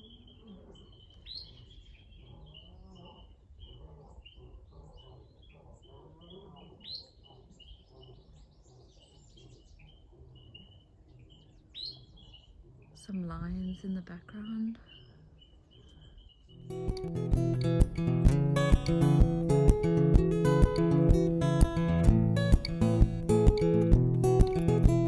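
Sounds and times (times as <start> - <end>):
birds calling: 0.0 - 25.0.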